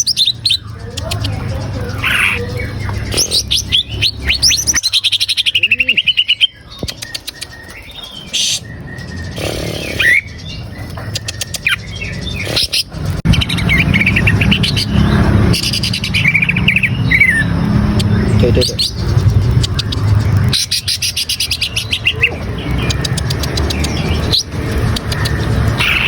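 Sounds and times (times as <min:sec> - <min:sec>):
bird singing chirps and whistles: 0:00.0 - 0:26.0.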